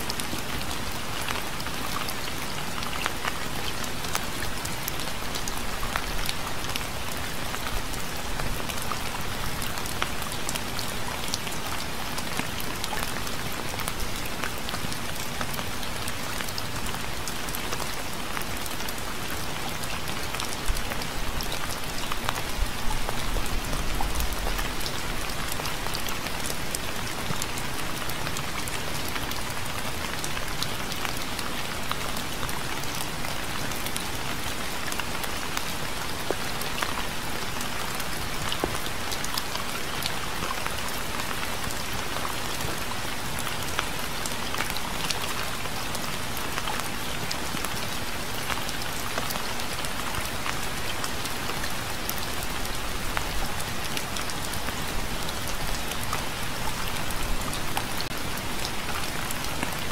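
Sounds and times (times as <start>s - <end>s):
rain drops striking a surface: 0.0s - 59.9s.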